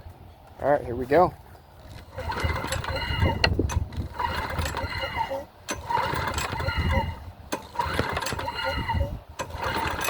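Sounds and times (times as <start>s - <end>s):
lawn mower engine pull-started: 1.8s - 10.0s.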